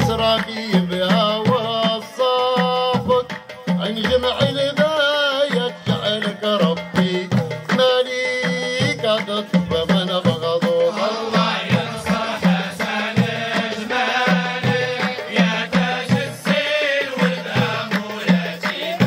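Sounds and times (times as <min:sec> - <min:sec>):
hand clapping: 0:00.0 - 0:19.0
men singing together: 0:00.0 - 0:19.0
small goblet drums: 0:00.0 - 0:19.0.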